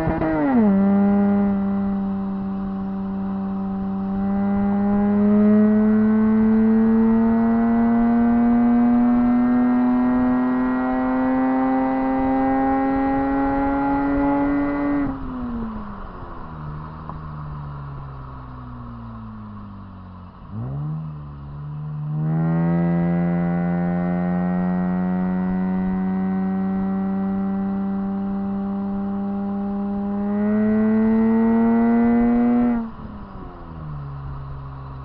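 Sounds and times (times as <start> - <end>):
car engine revving: 0.0 - 17.1, 18.0 - 35.0.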